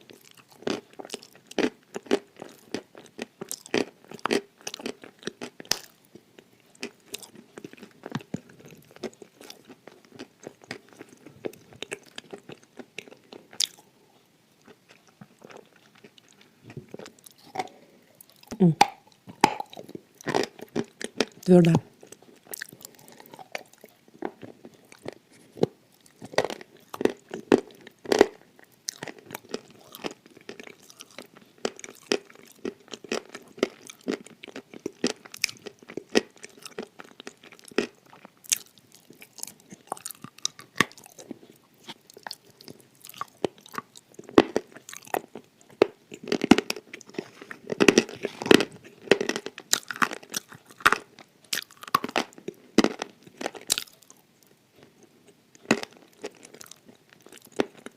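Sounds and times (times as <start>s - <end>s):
crunching and chewing dry clay: 0.0s - 57.9s.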